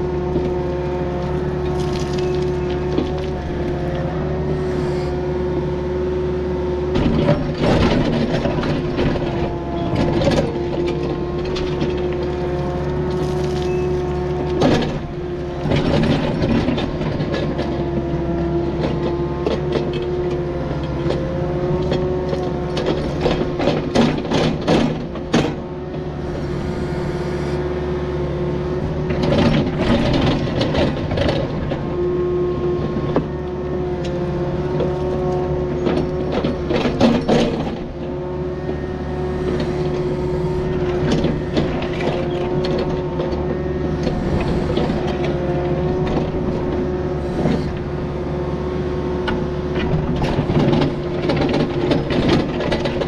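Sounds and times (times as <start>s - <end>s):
diesel engine running: 0.0s - 53.0s
hydraulic whine: 0.9s - 18.5s, 25.7s - 52.5s.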